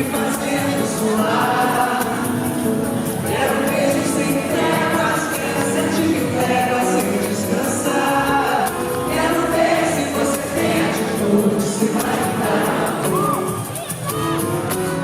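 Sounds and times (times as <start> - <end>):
several voices singing: 0.0 - 13.9
live band playing: 0.0 - 15.0.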